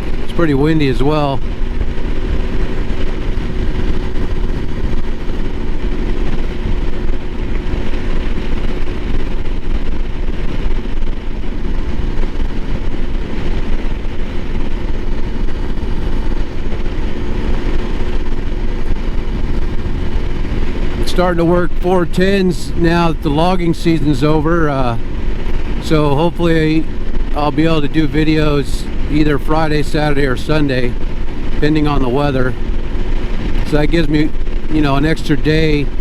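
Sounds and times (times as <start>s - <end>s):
motorcycle engine running: 0.0s - 36.0s
wind rushing over microphone: 0.0s - 36.0s.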